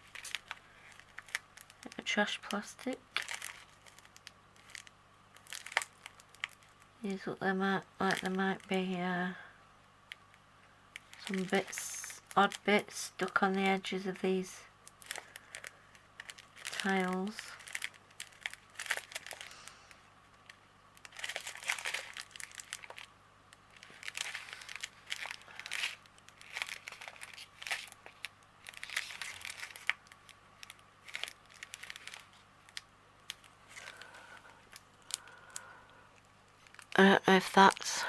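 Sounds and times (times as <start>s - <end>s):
plastic packets crinkling: 0.0s - 9.1s, 10.9s - 38.0s.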